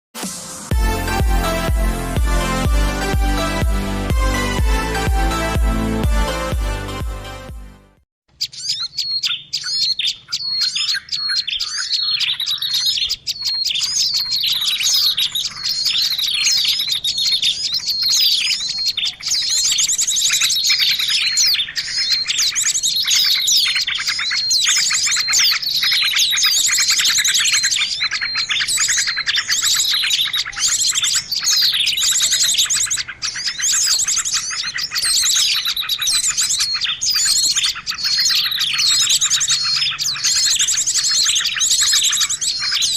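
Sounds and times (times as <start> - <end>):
songbirds chirping and trilling: 0.8 - 7.6, 8.3 - 42.9.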